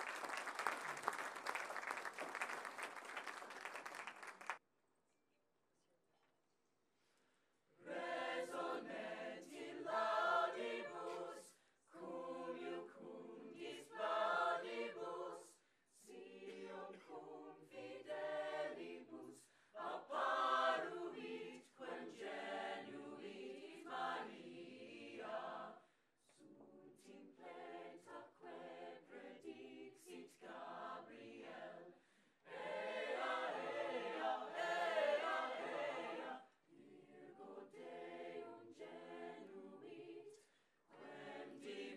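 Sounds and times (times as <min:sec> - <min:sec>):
choir singing: 0:07.8 - 0:41.9.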